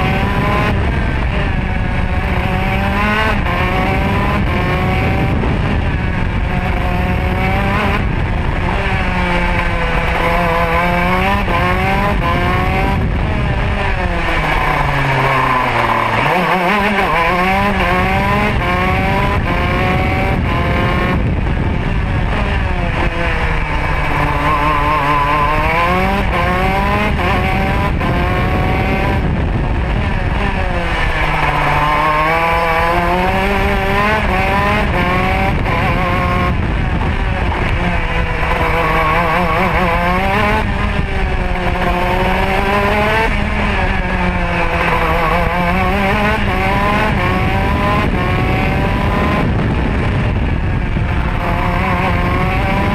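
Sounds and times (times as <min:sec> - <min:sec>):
kart engine accelerating and braking: 0:00.0 - 0:52.9.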